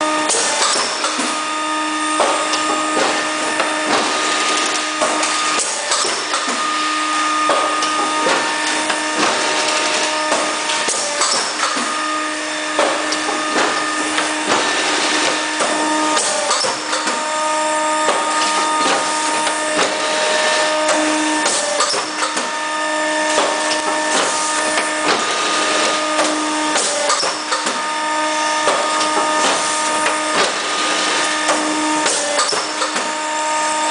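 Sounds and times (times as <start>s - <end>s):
pitched motor hum: 0.0s - 33.9s.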